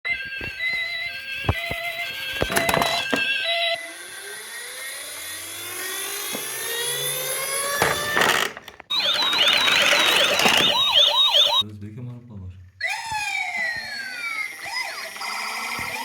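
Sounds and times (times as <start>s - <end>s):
toy electronic siren wailing: 0.1s - 11.6s, 12.8s - 16.0s.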